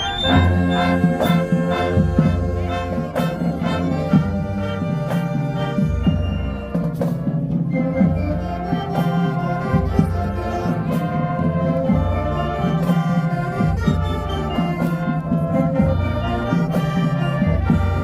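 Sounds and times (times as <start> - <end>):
brass holding chords: 0.0 - 7.2, 8.4 - 18.0.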